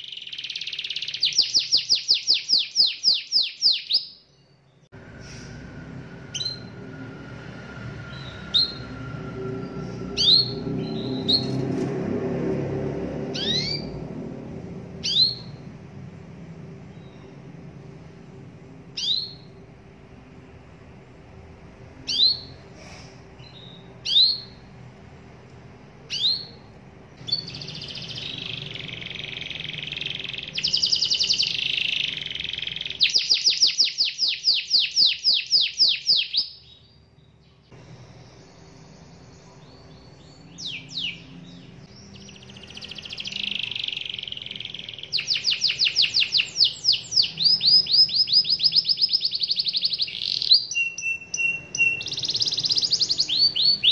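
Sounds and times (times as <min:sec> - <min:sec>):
canary chirping and singing: 0:00.0 - 0:04.9, 0:06.3 - 0:06.9, 0:08.0 - 0:12.2, 0:13.2 - 0:15.7, 0:16.8 - 0:17.5, 0:19.0 - 0:19.6, 0:22.0 - 0:22.7, 0:23.4 - 0:24.7, 0:26.0 - 0:53.9.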